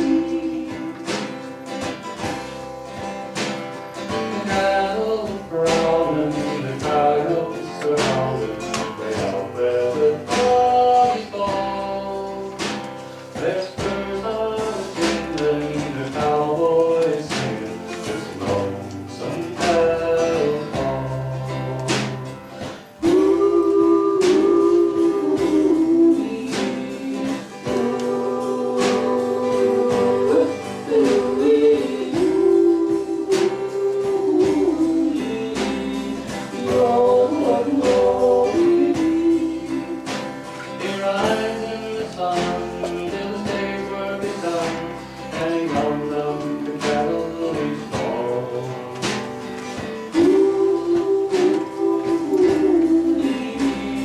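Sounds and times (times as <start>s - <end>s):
person singing: 0.0s - 1.9s, 4.1s - 54.0s
acoustic guitar: 0.0s - 54.0s
light drum beat: 0.0s - 54.0s.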